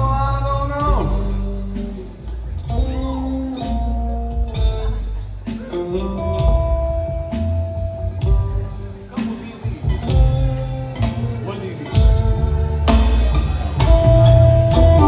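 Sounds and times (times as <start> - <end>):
bass guitar: 0.0 - 15.0
steady drum beat: 0.0 - 15.0
sustained guitar notes: 0.0 - 15.0.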